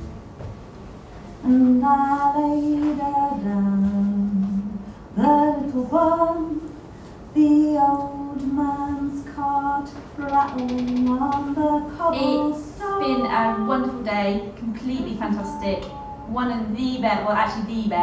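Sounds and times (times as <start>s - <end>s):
woman singing unaccompanied: 1.4s - 6.7s, 7.4s - 17.1s.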